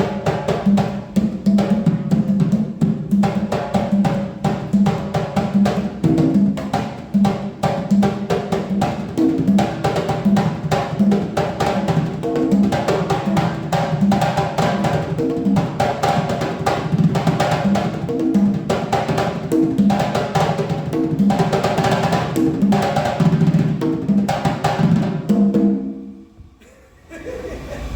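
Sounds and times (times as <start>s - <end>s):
fast improvised drumming: 0.0s - 25.9s.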